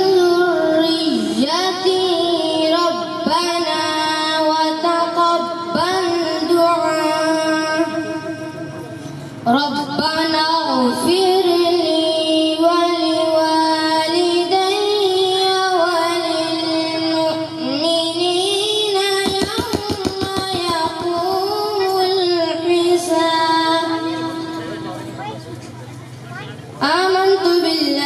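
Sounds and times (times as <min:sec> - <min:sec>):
boy singing solo: 0:00.0 - 0:08.1, 0:09.5 - 0:25.4, 0:26.3 - 0:28.0.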